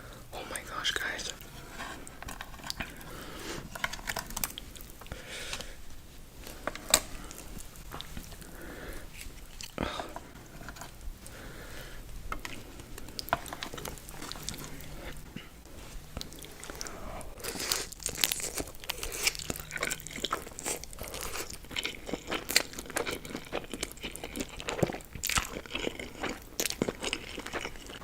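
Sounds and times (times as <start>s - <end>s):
wet chewing: 1.4s - 5.8s, 6.4s - 28.0s.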